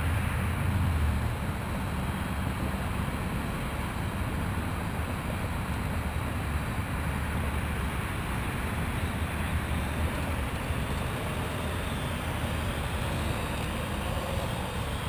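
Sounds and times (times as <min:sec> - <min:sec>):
drone rotors whirring: 0:01.8 - 0:15.0.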